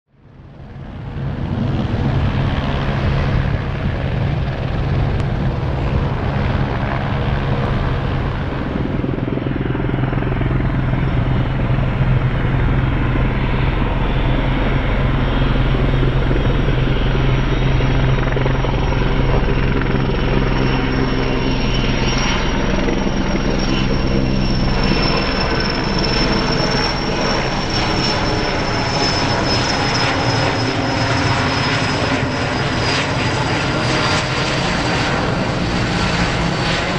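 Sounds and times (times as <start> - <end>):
high turbine whine: 0.2 - 36.9
helicopter rotor thrum: 0.7 - 36.9.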